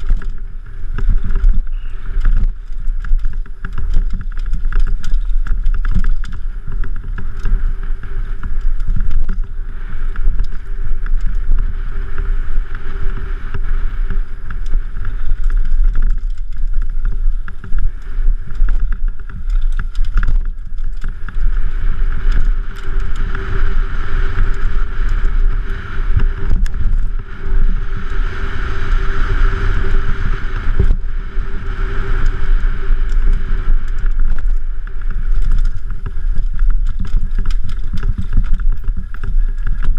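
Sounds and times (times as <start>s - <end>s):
bike tyres and frame rattling: 0.0s - 39.9s
steady hum and hiss: 0.0s - 39.9s
wind buffeting: 0.0s - 39.9s.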